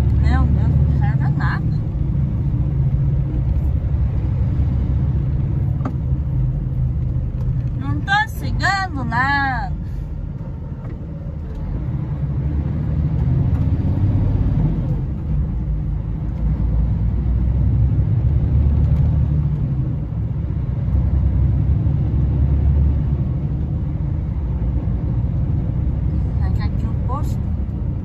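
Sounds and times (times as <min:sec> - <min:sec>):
truck diesel engine rumbling: 0:00.0 - 0:28.0
tyres on the road: 0:00.0 - 0:28.0.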